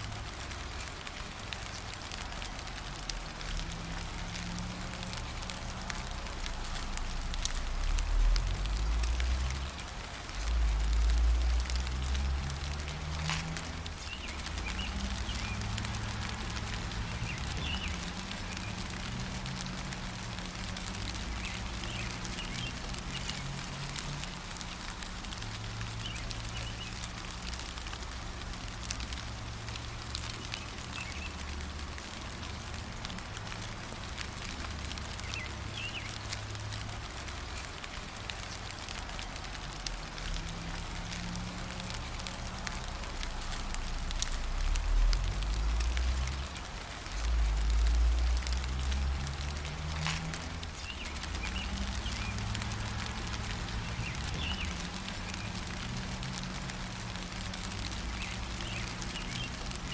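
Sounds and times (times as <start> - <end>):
rain pattering: 0.0 - 59.9
small birds chirping: 8.3 - 41.4, 45.0 - 59.9.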